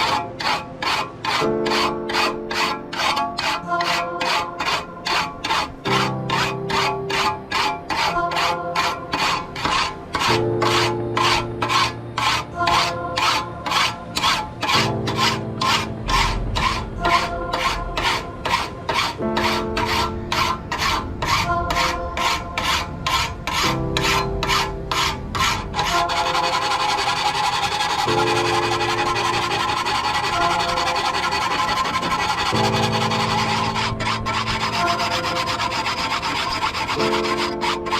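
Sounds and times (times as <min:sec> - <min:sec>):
rhythmic hand scraping strokes: 0:00.0 - 0:37.9
soft background music: 0:00.0 - 0:37.9.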